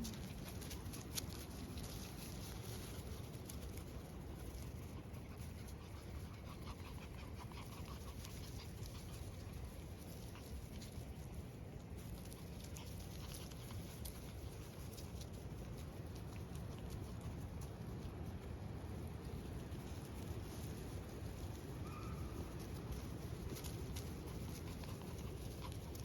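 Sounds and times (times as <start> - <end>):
patter of small paws: 0.0 - 26.0
puppies scuffling: 0.0 - 26.0.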